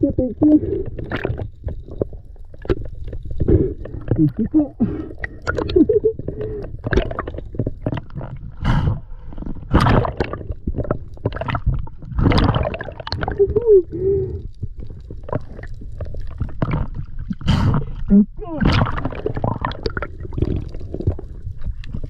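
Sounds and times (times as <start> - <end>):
water gurgling and splashing: 0.0 - 22.0.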